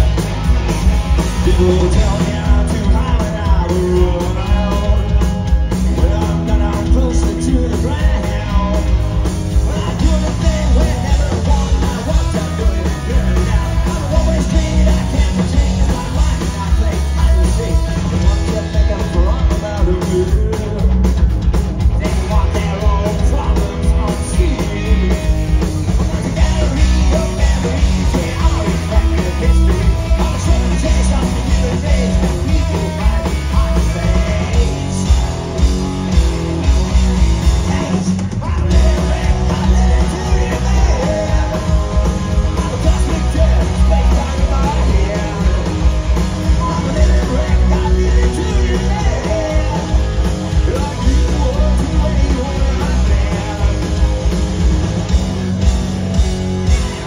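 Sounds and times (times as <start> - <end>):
bass guitar: 0.0 - 57.0
drum kit: 0.0 - 57.0
electric guitar: 0.0 - 57.0
man singing lead vocal: 1.2 - 35.6, 37.3 - 54.6.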